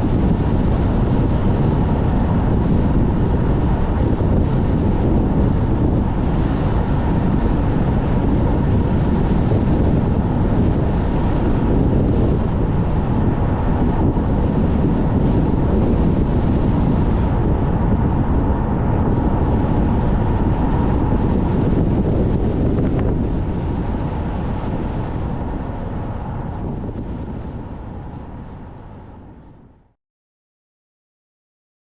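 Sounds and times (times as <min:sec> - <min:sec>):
car driving rumble: 0:00.0 - 0:29.6
strong wind buffeting microphone: 0:00.0 - 0:30.0.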